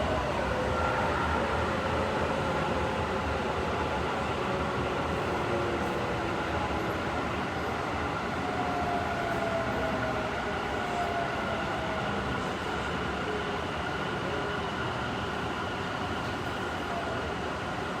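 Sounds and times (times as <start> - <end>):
train wheel and track rumble: 0.0 - 18.0.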